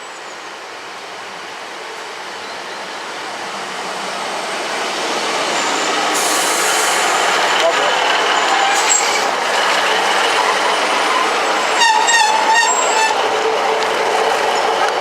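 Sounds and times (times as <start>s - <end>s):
train wheels on rails: 1.4s - 15.0s.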